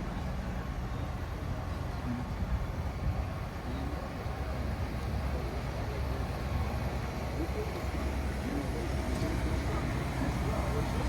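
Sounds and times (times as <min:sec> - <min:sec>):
faint voices: 0:00.0 - 0:11.0
vehicle low rumble: 0:00.0 - 0:11.0.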